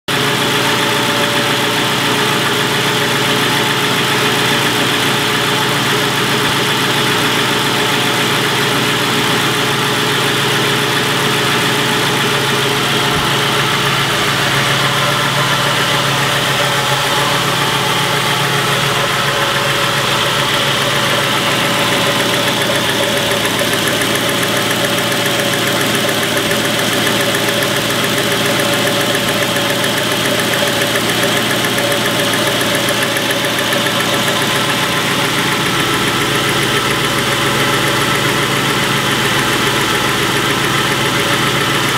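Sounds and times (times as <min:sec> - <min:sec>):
car engine idling: 0:00.1 - 0:41.9
fast ticking from engine: 0:00.1 - 0:41.9.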